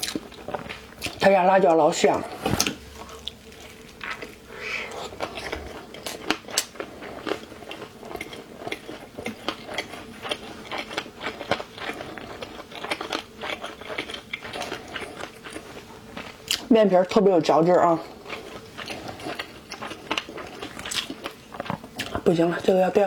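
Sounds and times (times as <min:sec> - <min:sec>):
person chewing crunchy food: 0:00.0 - 0:01.3, 0:02.0 - 0:16.7, 0:17.8 - 0:22.8.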